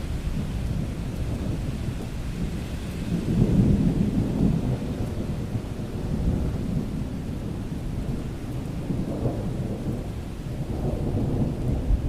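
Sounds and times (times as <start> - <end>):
low rumble of thunder: 0.0 - 12.0
rain falling: 0.0 - 12.0.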